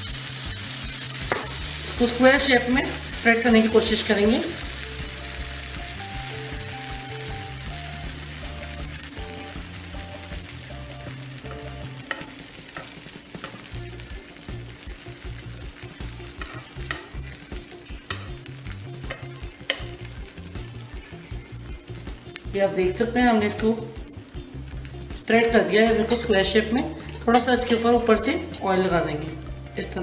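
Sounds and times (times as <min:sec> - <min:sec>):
batter sizzling in pan: 0:00.0 - 0:30.0.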